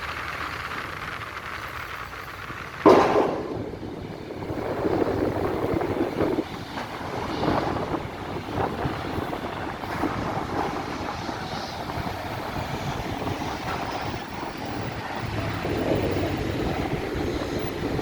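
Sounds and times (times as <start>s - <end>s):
rough rumbling vehicle noise: 0.0s - 18.0s.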